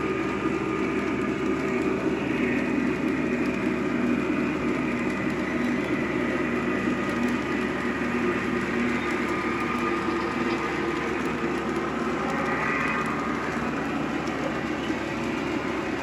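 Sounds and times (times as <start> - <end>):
model locomotive diesel engine sound: 0.0 - 16.0.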